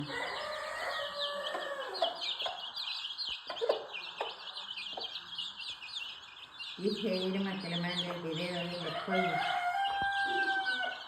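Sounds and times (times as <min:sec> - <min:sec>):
chickens clucking: 0:00.0 - 0:11.0
small birds chirping: 0:00.0 - 0:11.0.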